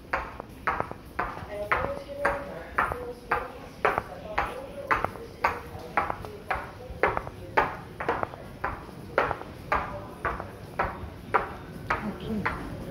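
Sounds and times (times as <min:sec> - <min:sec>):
footsteps on tiled floor: 0:00.0 - 0:12.9.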